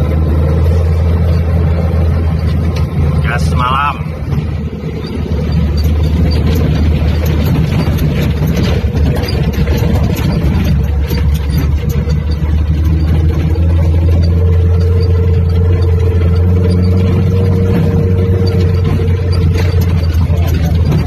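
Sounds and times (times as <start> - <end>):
car engine running loudly: 0.0 - 21.0.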